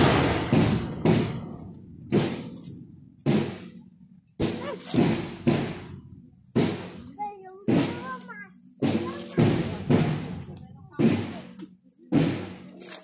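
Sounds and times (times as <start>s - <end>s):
big drum booms: 0.0s - 12.7s.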